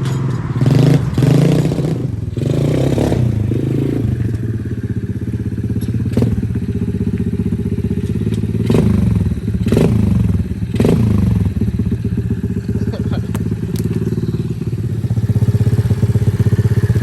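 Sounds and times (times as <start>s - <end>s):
engine throttle blips: 0.0s - 17.0s
small engine idling: 3.2s - 17.0s.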